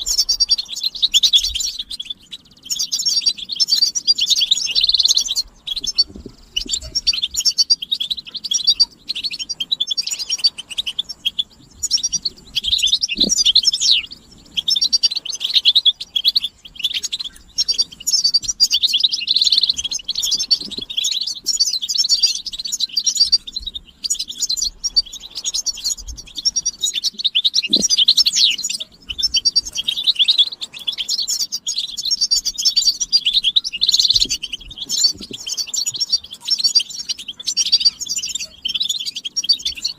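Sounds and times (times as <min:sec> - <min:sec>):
goldfinches chattering and twittering: 0:00.0 - 0:39.9.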